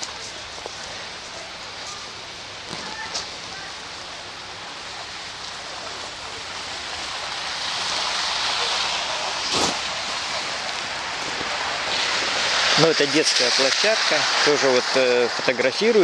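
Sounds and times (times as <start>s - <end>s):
wet tyres on slushy road: 0.0s - 16.0s.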